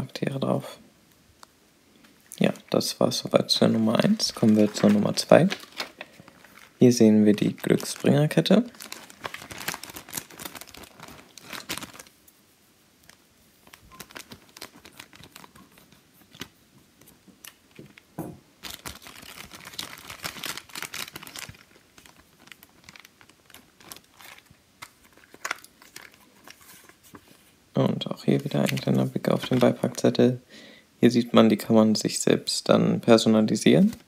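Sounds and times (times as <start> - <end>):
plastic packaging rustling: 2.0 - 12.2, 13.0 - 30.4.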